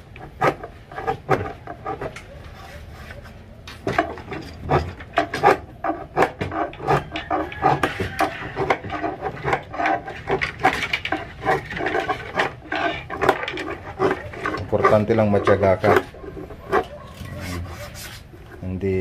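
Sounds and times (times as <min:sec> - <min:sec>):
hand file rasping on board edge: 0:00.0 - 0:18.3.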